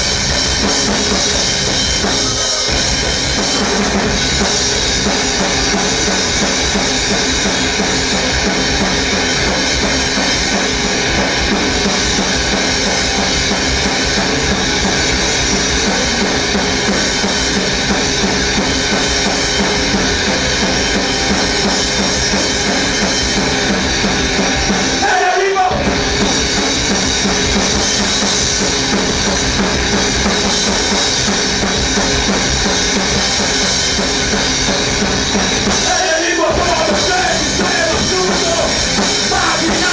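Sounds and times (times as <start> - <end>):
drum kit and cymbals: 0.0 - 39.9
metal band playing live: 0.0 - 39.9.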